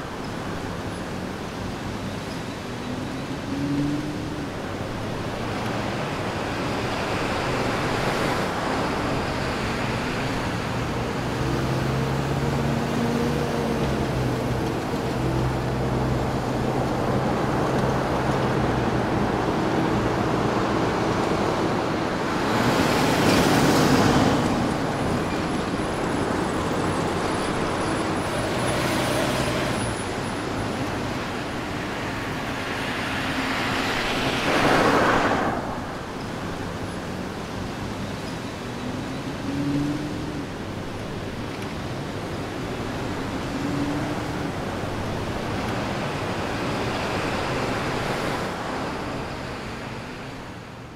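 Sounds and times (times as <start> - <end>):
street traffic: 0.0 - 50.9
vehicles passing: 0.0 - 50.9.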